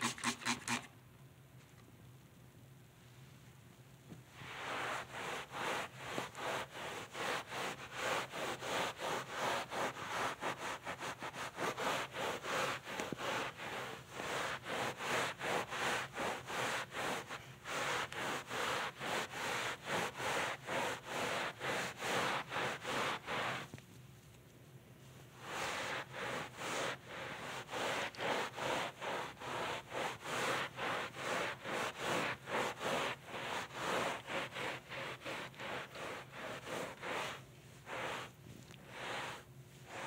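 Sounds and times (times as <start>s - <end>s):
wet cloth scrubbing carpet: 4.3s - 23.8s, 25.0s - 40.0s.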